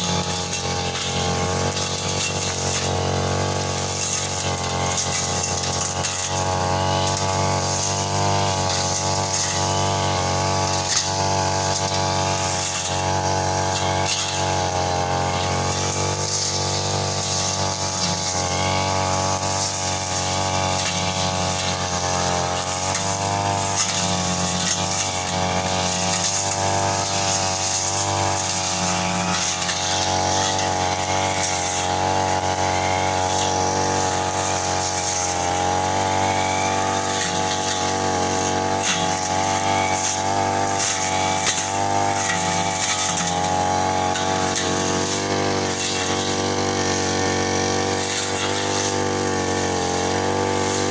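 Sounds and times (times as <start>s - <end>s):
brush cutter engine running: 0.0s - 50.9s.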